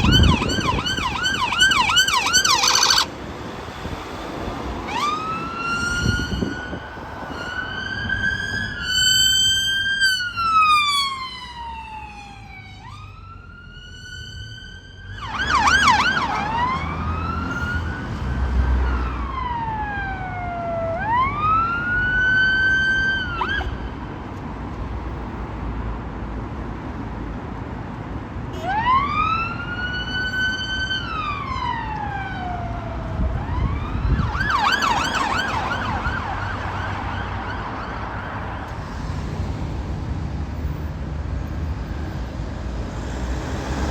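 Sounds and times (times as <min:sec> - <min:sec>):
emergency vehicle siren wailing: 0:00.0 - 0:24.1, 0:28.5 - 0:43.9
low road and traffic rumble: 0:00.0 - 0:43.9.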